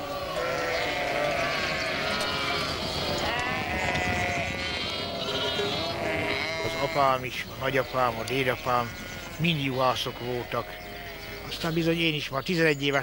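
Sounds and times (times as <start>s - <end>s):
sheep and lambs bleating: 0.0s - 12.2s.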